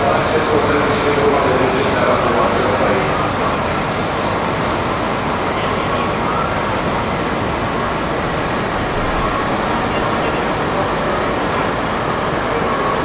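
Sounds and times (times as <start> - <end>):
trains and station machinery: 0.0 - 13.0.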